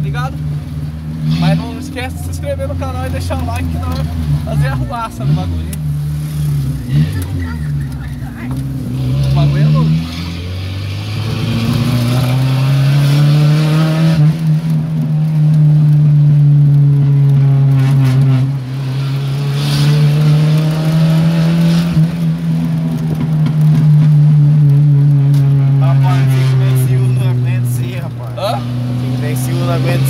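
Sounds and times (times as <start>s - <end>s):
car engine with loud exhaust: 0.0s - 30.0s.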